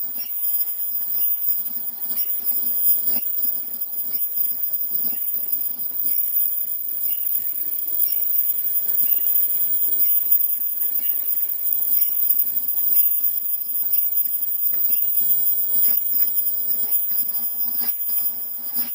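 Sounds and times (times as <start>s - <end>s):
machine high-pitched whine: 0.0s - 18.9s.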